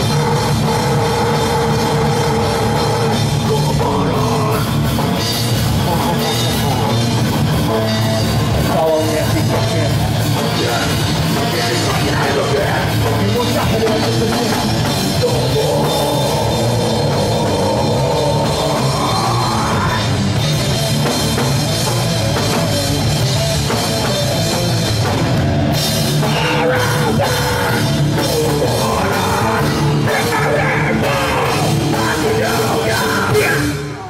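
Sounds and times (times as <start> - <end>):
distorted electric guitars: 0.0 - 34.0
pounding drum kit: 0.0 - 34.0.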